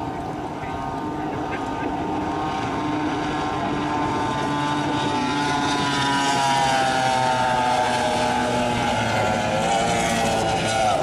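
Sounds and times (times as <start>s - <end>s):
powerboat engines running flat out: 0.0s - 11.0s
wake and wind noise: 0.0s - 11.0s.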